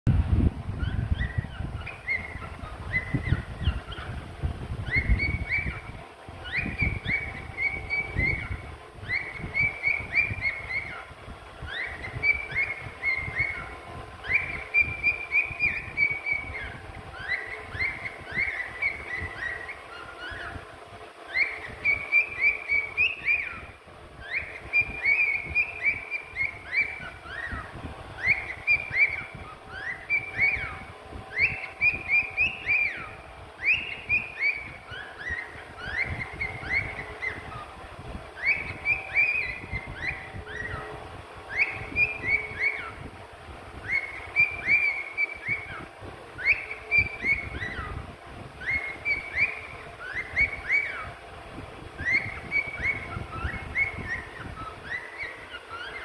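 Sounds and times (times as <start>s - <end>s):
cockatiel chirping whistles: 0.8s - 4.2s, 4.8s - 20.6s, 21.3s - 37.7s, 38.3s - 40.9s, 41.5s - 43.0s, 43.8s - 48.0s, 48.6s - 51.1s, 52.0s - 56.0s.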